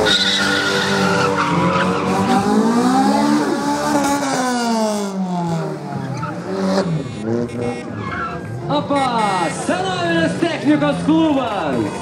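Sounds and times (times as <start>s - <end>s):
vehicle engines revving: 0.0s - 12.0s.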